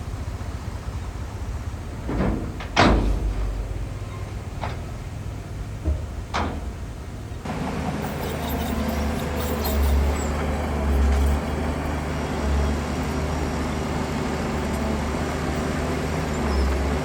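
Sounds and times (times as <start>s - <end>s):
heavy diesel engine droning: 0.0s - 17.0s.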